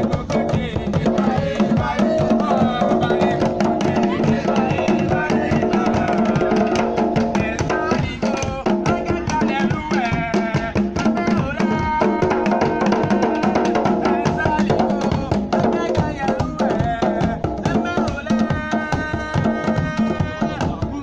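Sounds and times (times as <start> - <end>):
drum played with stick: 0.0 - 21.0
group of voices singing: 0.0 - 21.0
hand drums beating rhythm: 0.0 - 21.0.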